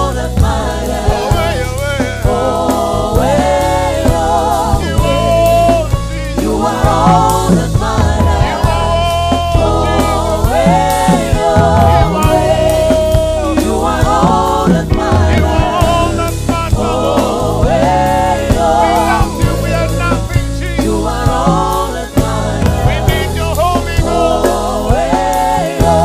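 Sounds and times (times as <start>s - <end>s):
bass: 0.0s - 26.0s
drum beat: 0.0s - 26.0s
voices singing together: 0.0s - 26.0s.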